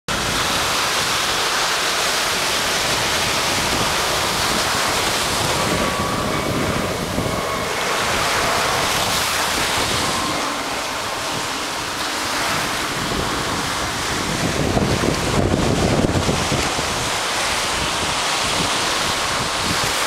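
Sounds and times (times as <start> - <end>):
waves breaking on beach: 0.1 - 20.0
wind buffeting microphone: 0.1 - 20.0.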